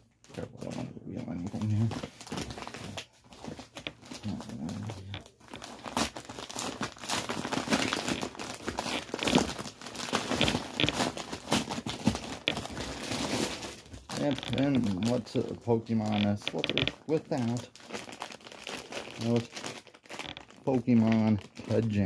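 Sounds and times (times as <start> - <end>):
packaging crinkling: 0.2 - 22.0.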